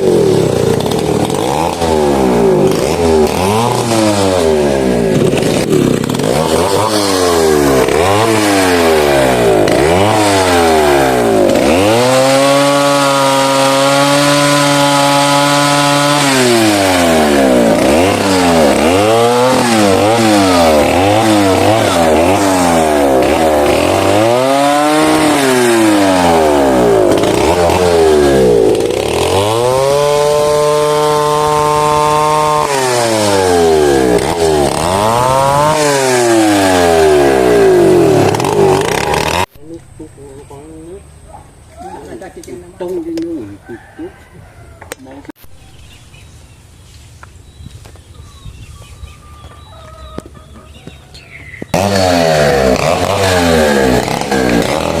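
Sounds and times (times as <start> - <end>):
chainsaw engine revving: 0.0 - 40.9, 51.2 - 55.0.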